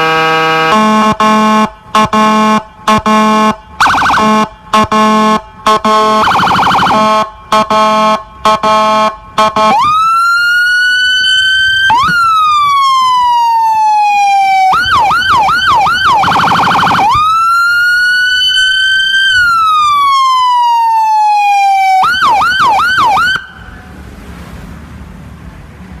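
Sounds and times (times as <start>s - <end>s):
electronic siren wail and yelp: 0.0s - 23.9s.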